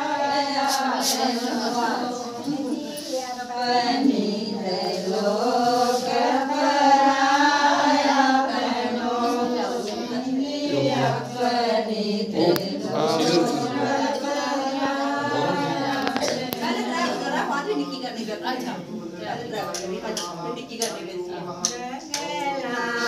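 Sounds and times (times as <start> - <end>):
women singing in unison: 0.0 - 23.0.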